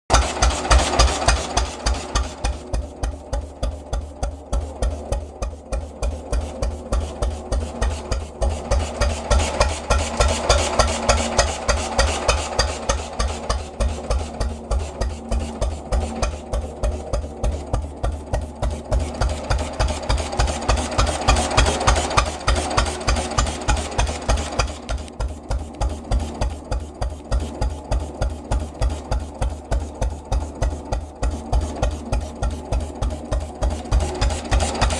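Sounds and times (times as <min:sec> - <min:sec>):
stationary engine exhaust beat: 0:00.0 - 0:34.9.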